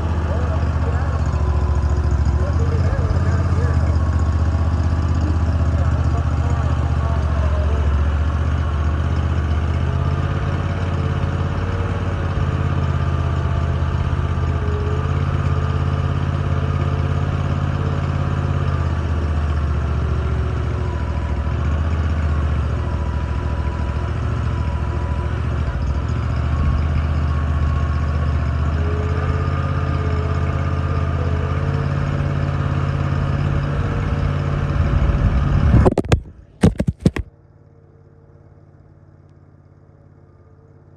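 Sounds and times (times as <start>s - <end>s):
large engine idling: 0.0s - 40.9s.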